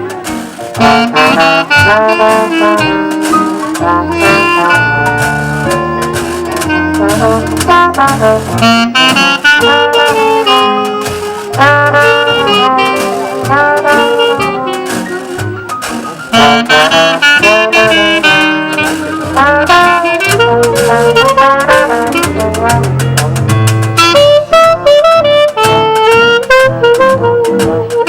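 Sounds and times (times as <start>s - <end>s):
brass horns playing: 0.0s - 28.0s
keyboard bass line: 0.0s - 28.0s
washboard clicking: 0.0s - 28.0s.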